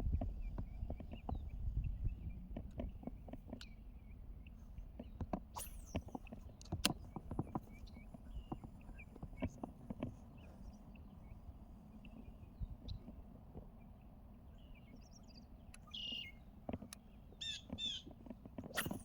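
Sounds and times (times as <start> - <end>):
birds chirping: 0.2 - 19.0.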